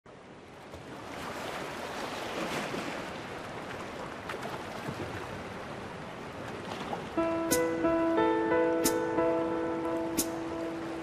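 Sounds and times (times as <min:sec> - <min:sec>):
sea: 0:00.1 - 0:11.0
wind: 0:00.1 - 0:11.0.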